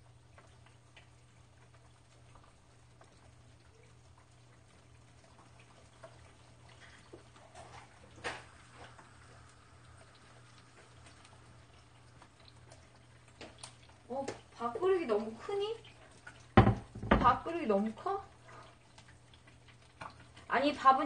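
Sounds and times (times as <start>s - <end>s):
eggs crackling in frying pan: 0.0s - 21.0s.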